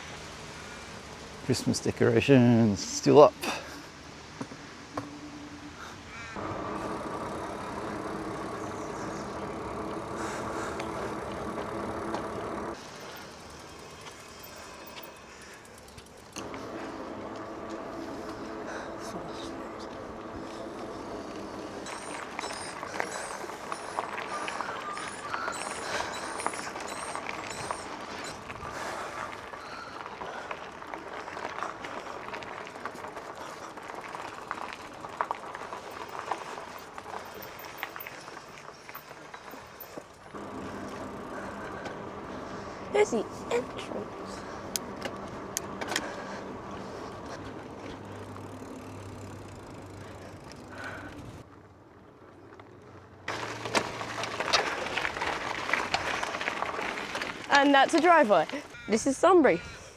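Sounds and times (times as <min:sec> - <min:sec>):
wind and tyres rushing: 0:00.0 - 0:59.9
bicycle clicks and rattles: 0:06.4 - 0:59.4.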